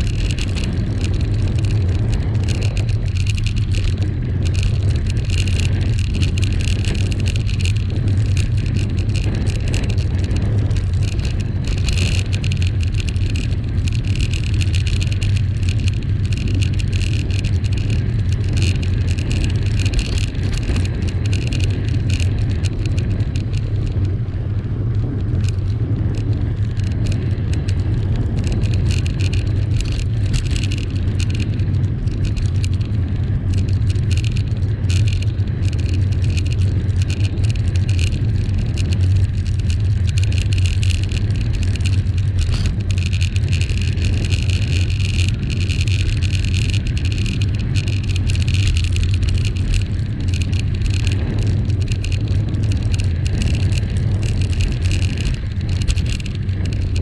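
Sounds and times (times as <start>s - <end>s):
bicycle tyres rumbling on tarmac: 0.0s - 57.0s
bike rattles and clicks: 0.0s - 57.0s
wind on microphone: 0.0s - 57.0s.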